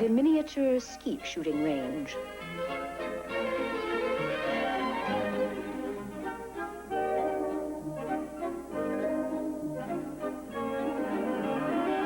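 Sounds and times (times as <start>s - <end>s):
orchestral music with violins: 0.8s - 12.0s.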